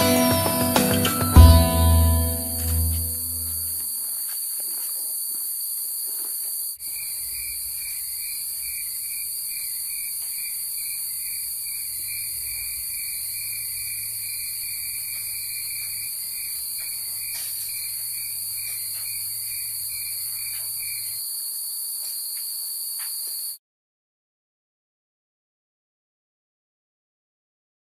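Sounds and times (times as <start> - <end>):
insects droning: 0.0 - 23.6.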